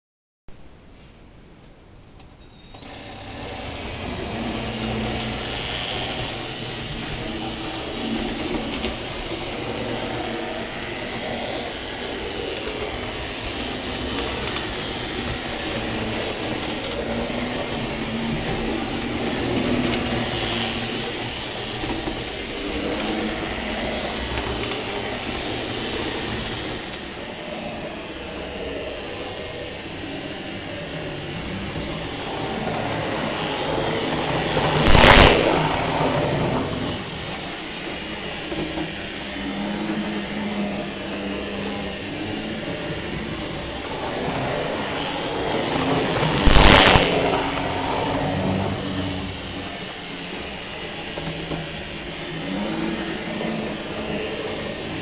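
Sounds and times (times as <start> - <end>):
wheels rattling on rails: 2.2 - 55.0
small electric motors whirring: 2.7 - 55.0.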